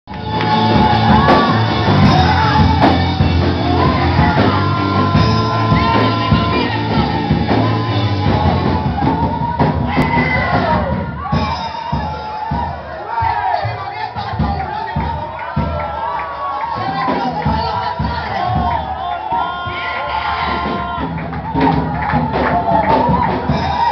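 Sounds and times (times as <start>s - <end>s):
live band with bass and drums: 0.1s - 23.9s
people singing and shouting: 0.1s - 23.9s.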